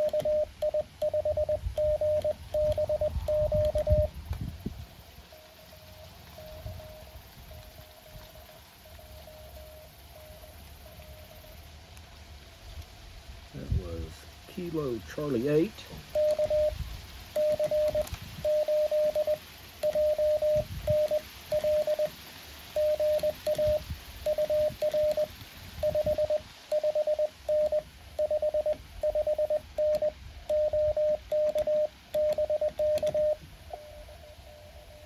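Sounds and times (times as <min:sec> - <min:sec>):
morse code beeps: 0:00.0 - 0:11.6, 0:16.0 - 0:22.1, 0:22.7 - 0:35.0.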